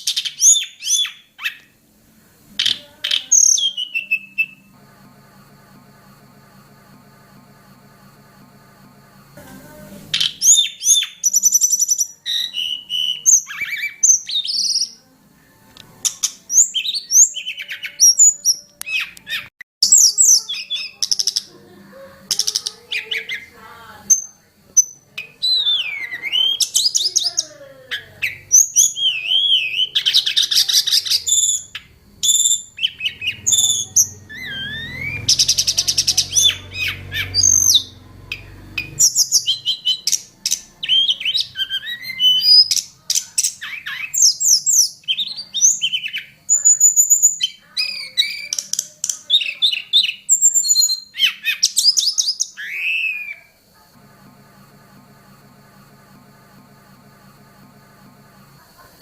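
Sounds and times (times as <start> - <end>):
songbird singing: 0.0 - 15.2, 15.8 - 53.7.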